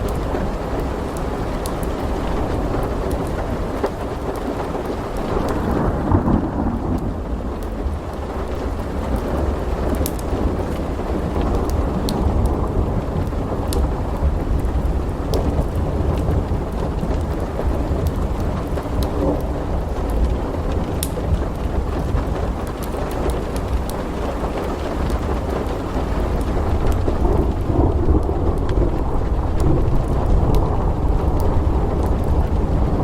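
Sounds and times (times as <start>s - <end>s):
rumble of thunder: 0.0s - 33.0s
steady rain: 0.0s - 33.0s
wood fire crackling: 0.0s - 33.0s.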